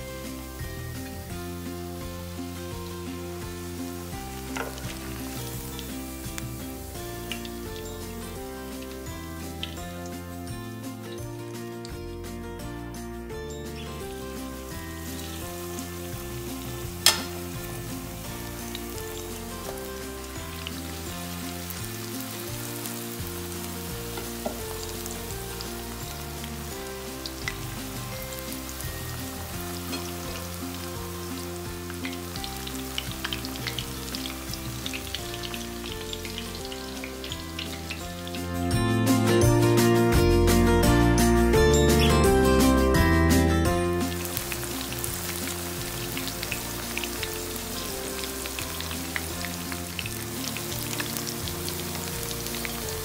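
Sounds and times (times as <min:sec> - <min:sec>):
food deep-frying in oil: 0:00.0 - 0:12.0, 0:13.5 - 0:39.6, 0:41.8 - 0:53.0.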